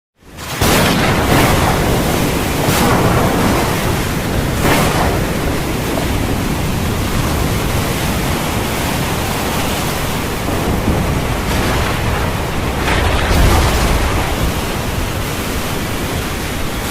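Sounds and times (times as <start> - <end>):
heavy rain falling: 0.2 - 16.9.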